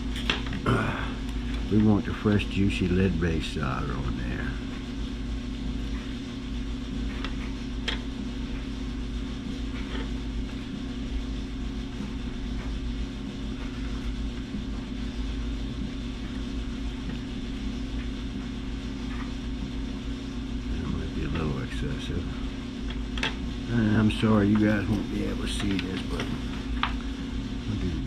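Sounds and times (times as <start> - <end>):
machinery hum and rumble: 0.0 - 28.0.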